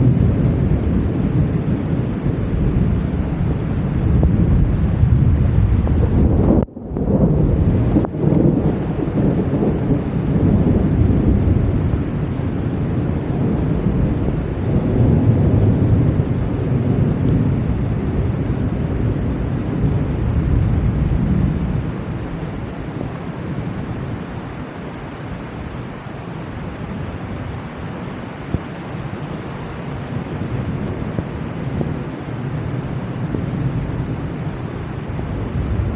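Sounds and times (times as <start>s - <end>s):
heavy rain pouring: 0.0s - 35.9s
low rumble of thunder: 0.0s - 35.9s.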